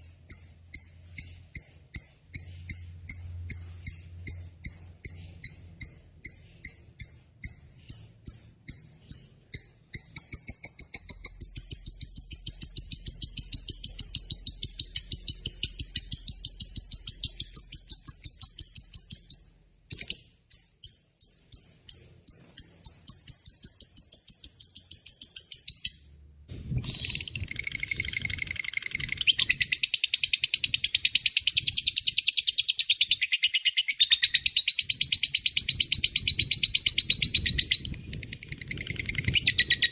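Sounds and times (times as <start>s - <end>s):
lovebird chattering song: 0.0s - 26.1s, 26.7s - 39.9s.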